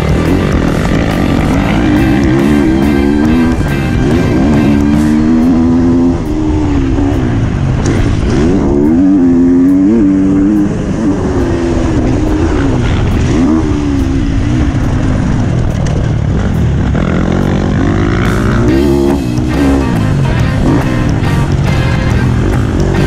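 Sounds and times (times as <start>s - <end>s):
dirt bike engine revving: 0.0s - 23.0s
wind noise: 0.0s - 23.0s.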